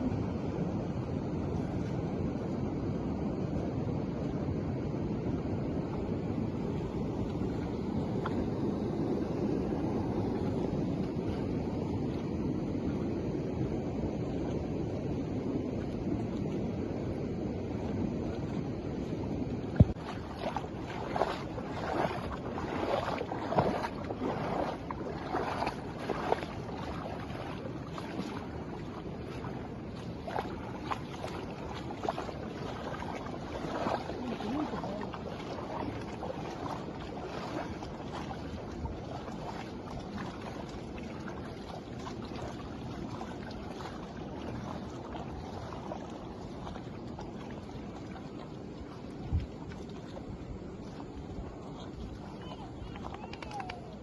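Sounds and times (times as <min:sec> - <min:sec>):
storm wind and rushing water: 0:00.0 - 0:54.0
wind rumbling on microphone: 0:00.0 - 0:54.0
knocks and splashes: 0:05.8 - 0:13.0, 0:17.7 - 0:54.0.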